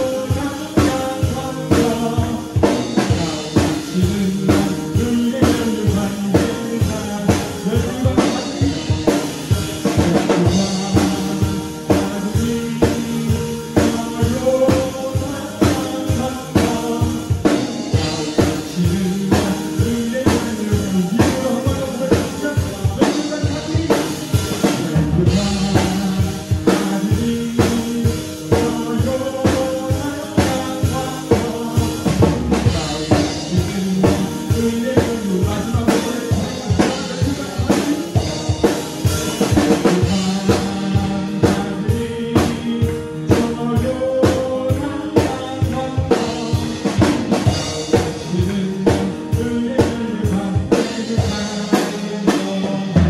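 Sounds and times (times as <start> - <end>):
drum kit playing: 0.0 - 53.0
recorded song with singing: 0.0 - 53.0.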